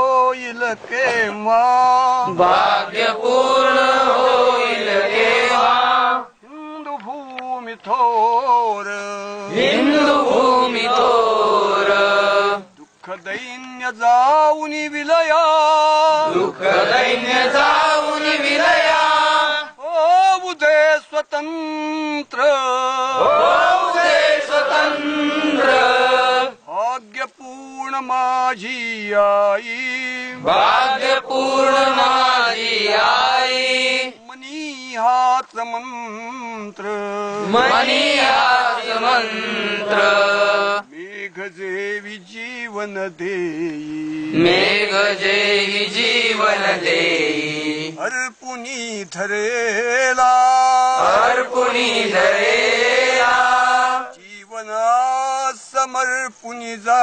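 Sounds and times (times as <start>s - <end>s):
group of men singing: 0.0s - 57.0s.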